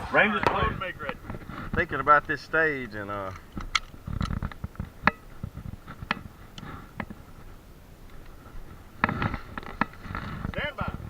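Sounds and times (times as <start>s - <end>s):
light clicks and knocks: 0.4s - 11.0s.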